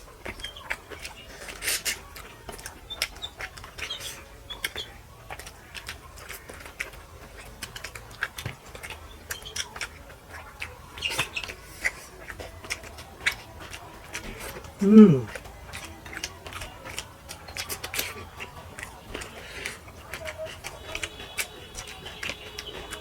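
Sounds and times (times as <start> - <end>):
small clicks while eating: 0.0 - 23.0
wet chewing and lip smacking: 0.0 - 23.0.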